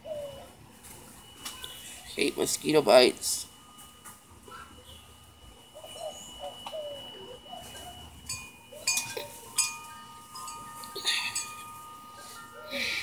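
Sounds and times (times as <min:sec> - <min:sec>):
wind chimes ringing: 0:01.2 - 0:13.0.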